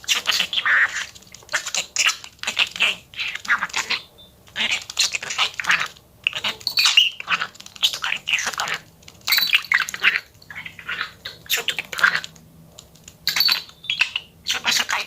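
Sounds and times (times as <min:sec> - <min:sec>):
budgerigar chattering: 0:00.0 - 0:12.3, 0:13.3 - 0:15.0.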